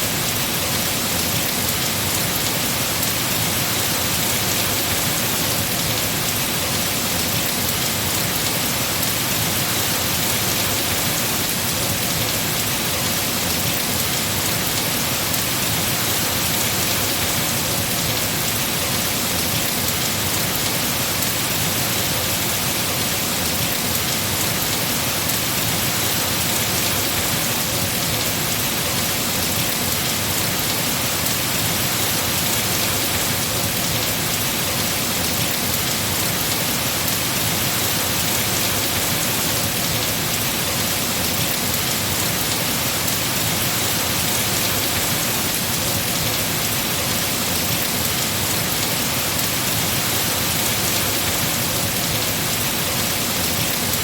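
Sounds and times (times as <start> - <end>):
heavy rain falling on trees: 0.0 - 54.0.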